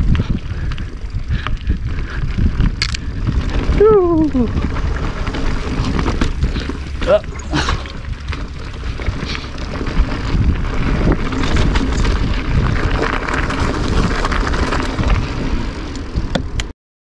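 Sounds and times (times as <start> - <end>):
bike rattling clicks: 0.0 - 3.8, 4.5 - 16.7
bike tyres rumbling on gravel: 0.0 - 16.7
wind buffeting microphone: 0.0 - 16.7.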